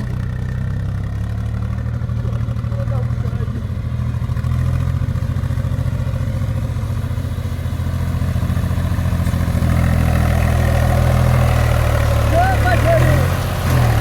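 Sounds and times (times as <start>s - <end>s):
tractor engine throbbing: 0.0s - 14.0s.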